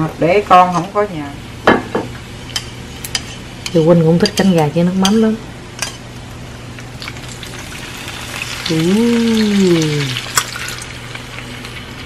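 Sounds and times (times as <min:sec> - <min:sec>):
glaze sizzling in a frying pan: 0:00.2 - 0:12.0.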